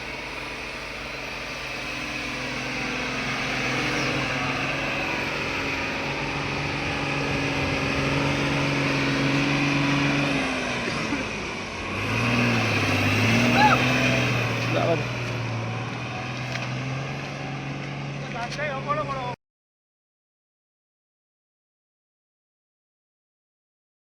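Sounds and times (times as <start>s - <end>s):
truck diesel engine running: 0.0s - 19.4s.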